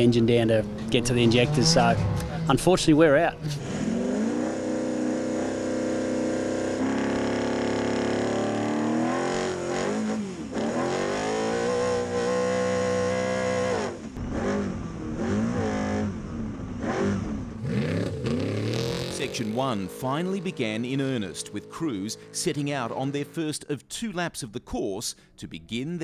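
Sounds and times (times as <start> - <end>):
truck engine at full throttle: 0.0 - 23.6.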